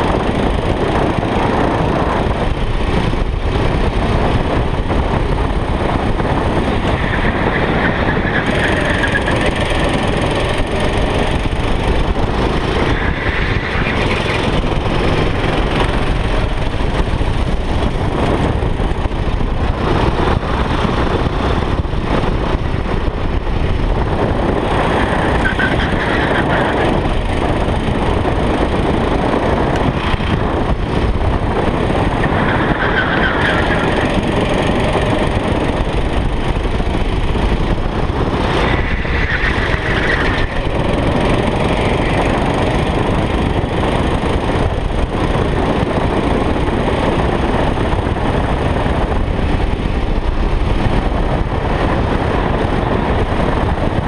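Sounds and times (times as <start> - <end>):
go-kart engine racing: 0.0 - 54.0
wind rushing on microphone: 0.0 - 54.0.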